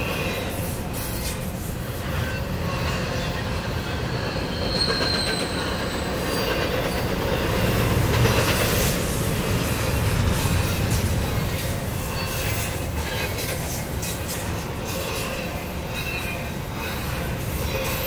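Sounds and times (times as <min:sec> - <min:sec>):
high wheel squeal: 0:00.0 - 0:08.0, 0:08.7 - 0:18.0
train wheels rumbling on rail: 0:00.0 - 0:18.0.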